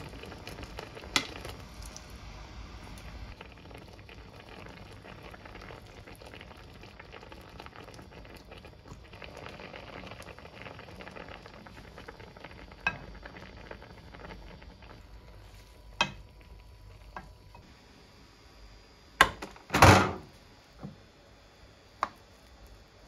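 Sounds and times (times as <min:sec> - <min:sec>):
food bubbling and crackling in pan: 0:00.0 - 0:19.6, 0:20.3 - 0:23.0.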